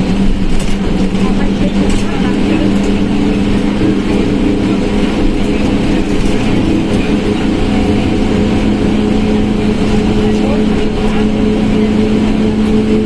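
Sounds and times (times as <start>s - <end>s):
bus engine droning: 0.0s - 13.0s
transmission growling: 0.0s - 13.0s.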